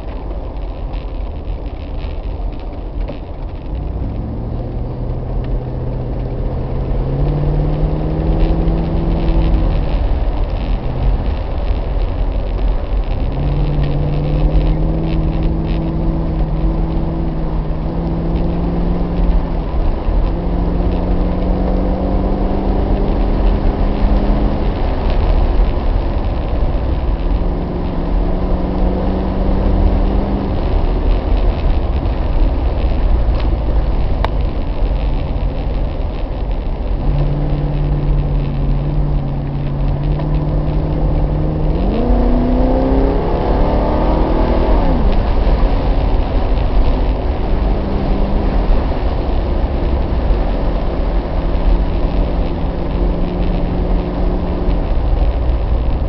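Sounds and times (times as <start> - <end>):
car engine running: 0.0 - 56.0
road and wind noise: 0.0 - 56.0.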